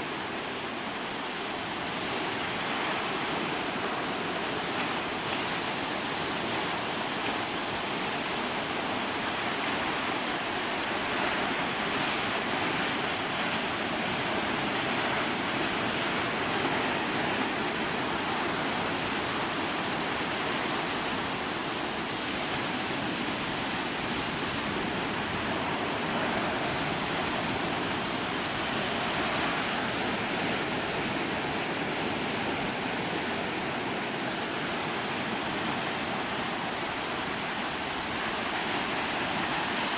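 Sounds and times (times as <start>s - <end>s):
ocean waves on sandy beach: 0.0s - 39.9s.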